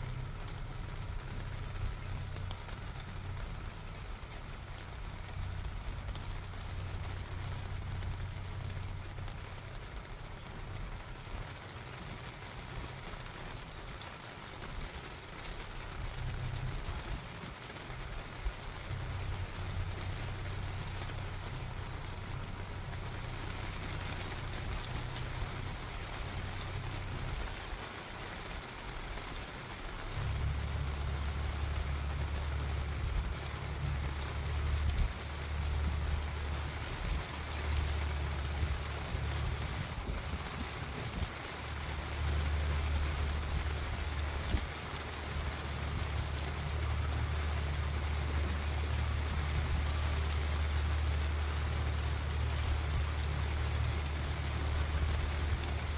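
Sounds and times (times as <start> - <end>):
steady rain falling: 0.0 - 55.9
wind rumble: 0.0 - 55.9.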